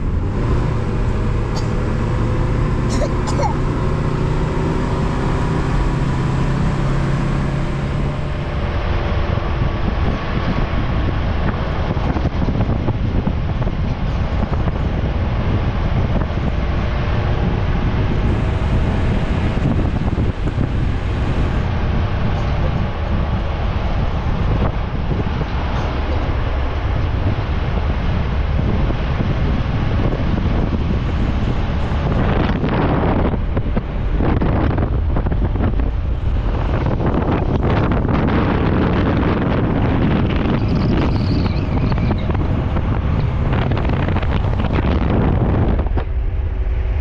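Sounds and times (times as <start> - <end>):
road noise: 0.0 - 47.0
vehicle engine hum: 0.0 - 47.0.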